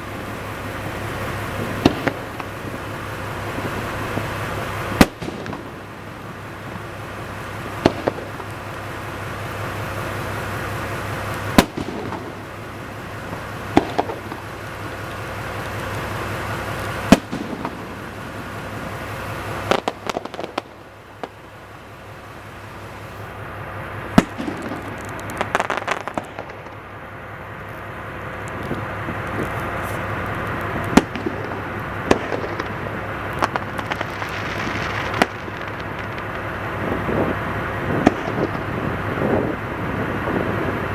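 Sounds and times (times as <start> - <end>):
fireworks bursting with bangs: 0.0 - 40.9
fireworks crackling: 0.0 - 40.9.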